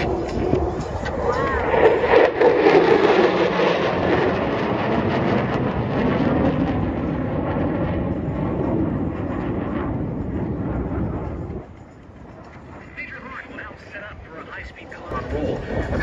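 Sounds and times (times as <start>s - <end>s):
jet rumble: 0.0s - 16.0s.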